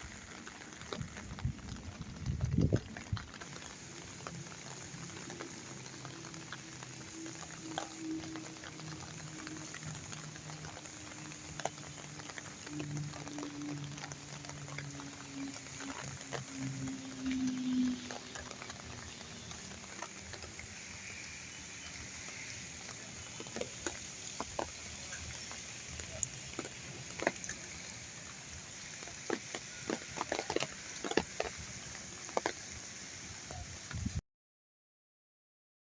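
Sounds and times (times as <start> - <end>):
raindrops tapping on surfaces: 0.0 - 34.2
steady rain hissing: 0.0 - 34.2.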